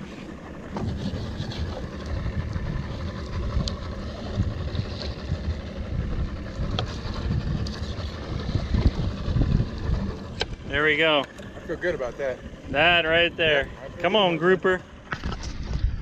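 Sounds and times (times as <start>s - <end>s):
wind buffeting microphone: 0.6s - 16.0s.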